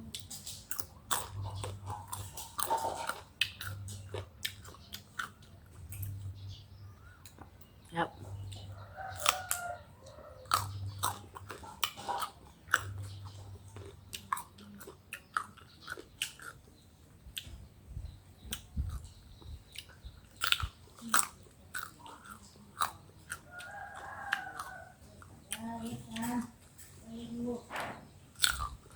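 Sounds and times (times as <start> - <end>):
people crunching mango: 0.0 - 6.5, 7.1 - 9.8, 10.4 - 17.6, 18.4 - 26.6, 28.3 - 28.9.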